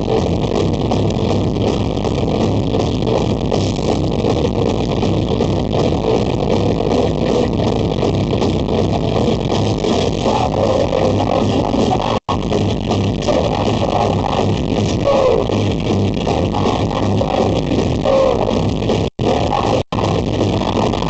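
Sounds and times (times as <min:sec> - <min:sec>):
live rock band with distorted guitar: 0:00.0 - 0:21.0.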